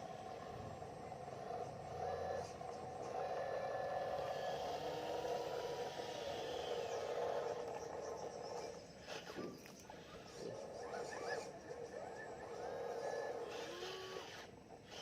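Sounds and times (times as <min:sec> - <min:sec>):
electric motors whirring: 0:00.0 - 0:15.0
high-pitched motor whines: 0:00.0 - 0:15.0.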